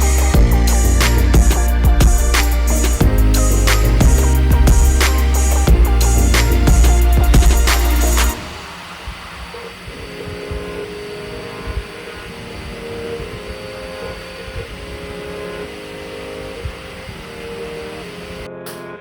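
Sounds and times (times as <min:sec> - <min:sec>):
mechanical hum: 0:00.0 - 0:18.7
stepper motors whining: 0:00.0 - 0:18.8.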